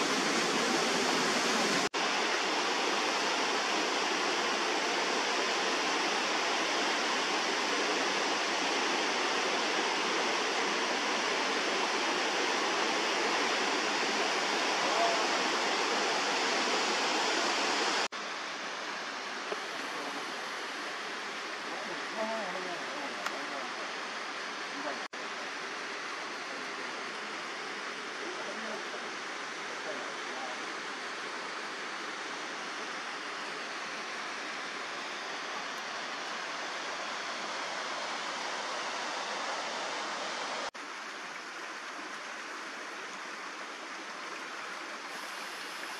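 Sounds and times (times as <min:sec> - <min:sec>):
creek rushing over rocks: 0:00.0 - 0:45.9.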